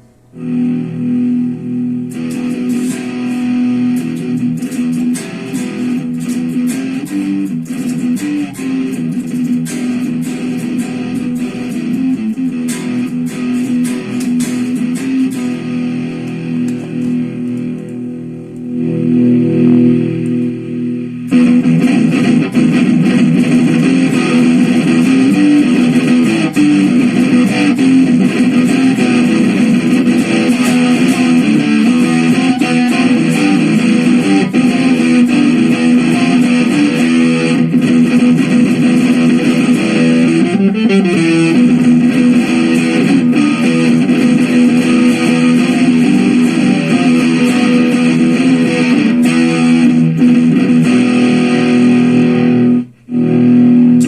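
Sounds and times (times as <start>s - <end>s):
electric guitar strumming and riffs: 0.0s - 54.0s.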